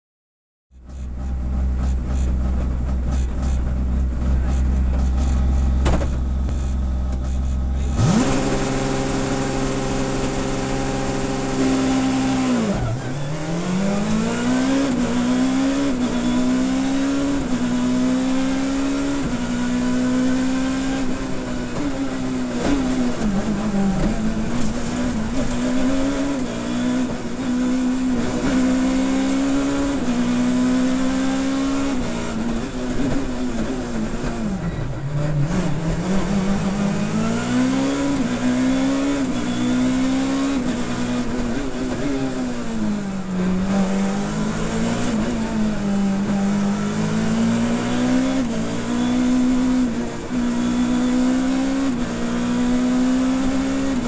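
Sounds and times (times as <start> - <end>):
rally car engine revving: 0.7 - 54.0.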